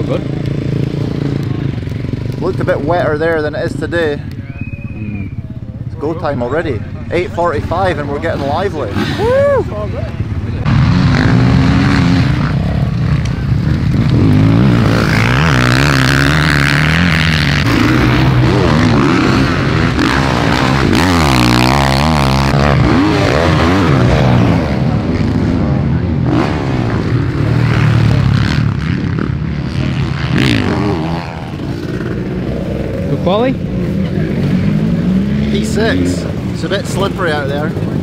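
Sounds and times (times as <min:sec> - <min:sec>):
motocross engines revving: 0:00.0 - 0:38.0.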